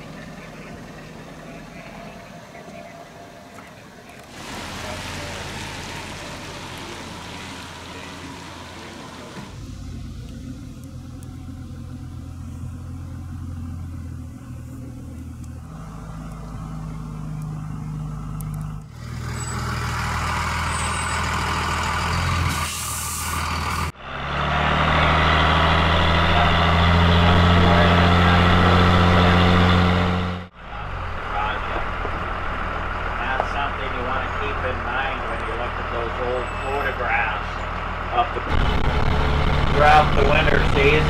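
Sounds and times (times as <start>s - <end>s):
bus engine humming: 0.0s - 41.0s.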